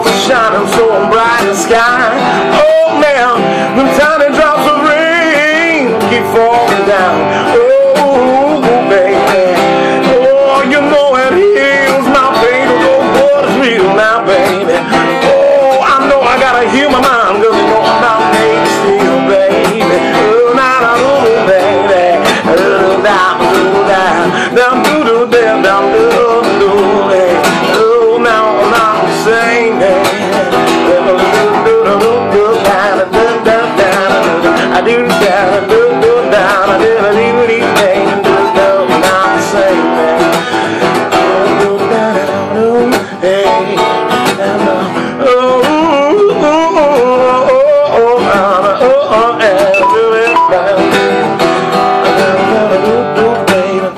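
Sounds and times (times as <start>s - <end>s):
acoustic guitar music: 0.0s - 53.9s.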